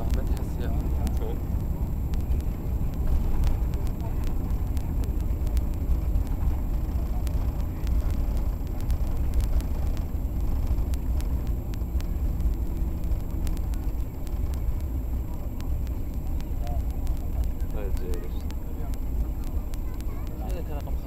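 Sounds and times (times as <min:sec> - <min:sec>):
deep rumble of engines and airflow: 0:00.0 - 0:21.0.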